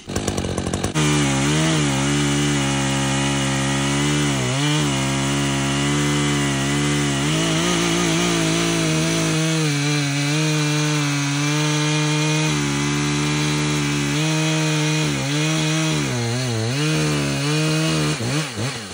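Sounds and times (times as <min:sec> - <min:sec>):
chainsaw cutting log: 0:00.0 - 0:18.9.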